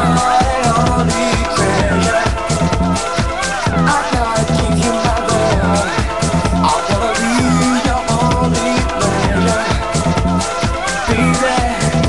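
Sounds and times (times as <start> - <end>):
disco house dance music: 0.0 - 12.0.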